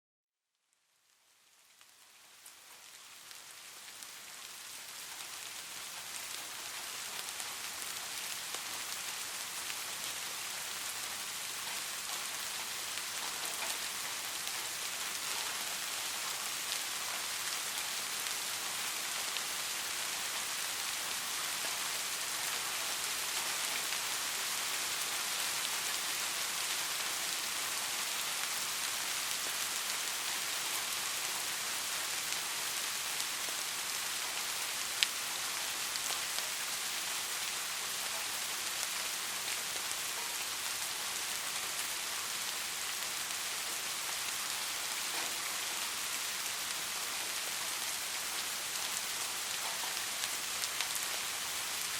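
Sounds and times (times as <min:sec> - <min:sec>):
gentle rain pattering: 0:00.5 - 0:51.9.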